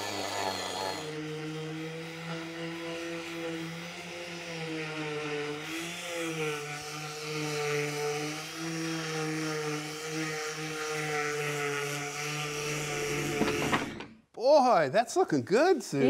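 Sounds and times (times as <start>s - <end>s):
orbital sander on wood: 0.0s - 14.0s.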